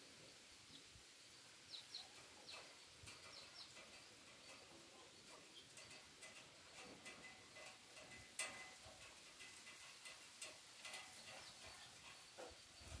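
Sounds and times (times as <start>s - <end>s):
faint ticks: 1.7s - 13.0s.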